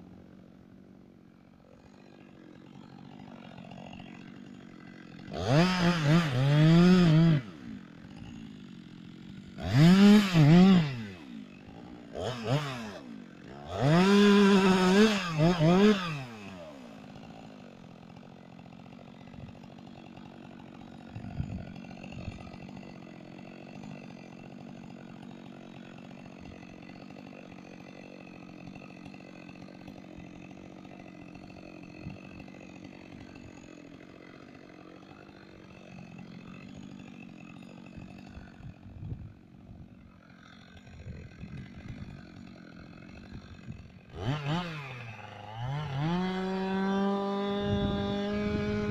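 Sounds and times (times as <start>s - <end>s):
chainsaw revving and idling: 0.0s - 48.9s.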